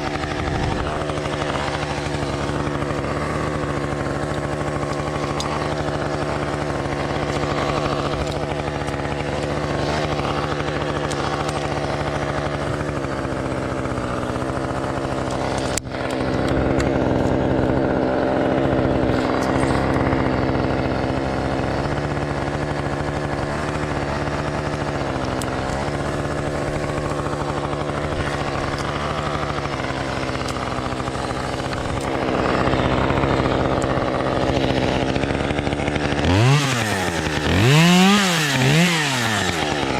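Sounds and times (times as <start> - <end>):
chainsaw engine running: 0.0 - 39.9.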